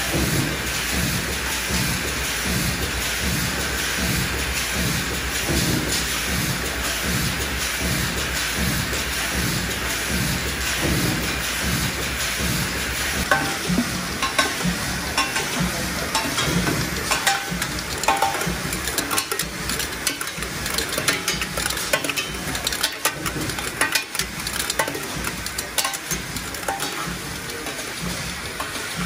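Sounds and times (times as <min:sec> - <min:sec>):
machine running hum: 0:00.0 - 0:29.0.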